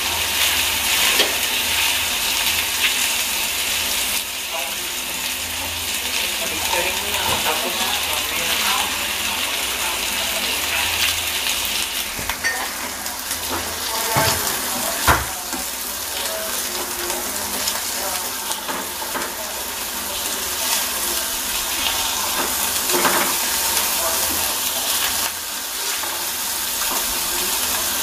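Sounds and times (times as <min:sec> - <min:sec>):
burger patties sizzling: 0:00.0 - 0:28.0.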